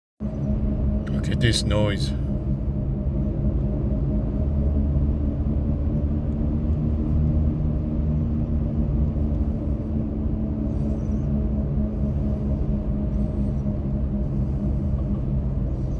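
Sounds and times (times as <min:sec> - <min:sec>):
steady low vehicle hum: 0:00.2 - 0:15.9.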